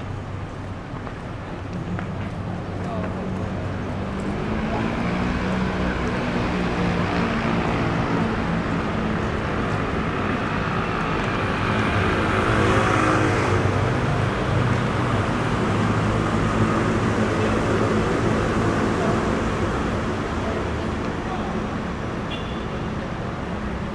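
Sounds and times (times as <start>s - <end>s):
road traffic engines: 0.0s - 23.9s.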